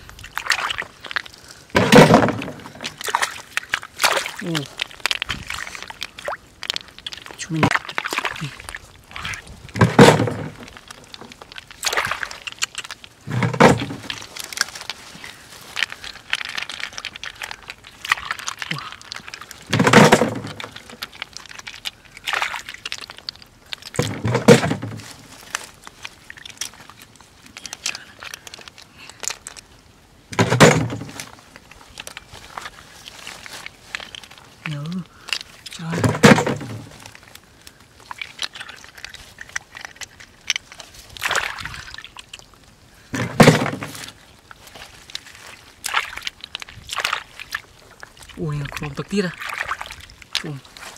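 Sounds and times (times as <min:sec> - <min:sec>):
hands squelching through wet mud: 0:00.0 - 0:50.9
twigs crackling and rustling: 0:00.0 - 0:50.9.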